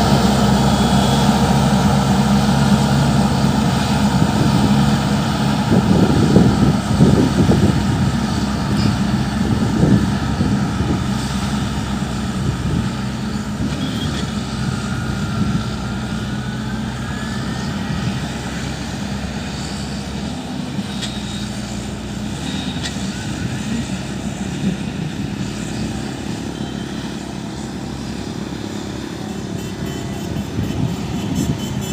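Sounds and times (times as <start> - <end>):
diesel engine droning under load: 0.0 - 31.9.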